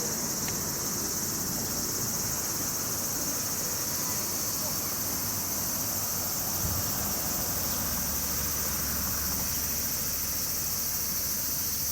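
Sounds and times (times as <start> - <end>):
crickets and insects chirping: 0.0 - 11.9.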